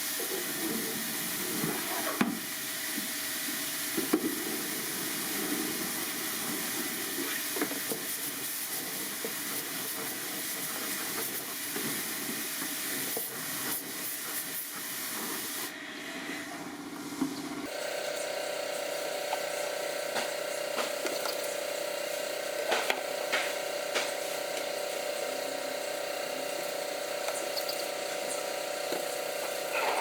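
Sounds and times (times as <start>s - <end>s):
spraying hiss: 0.1s - 15.7s, 17.7s - 30.0s.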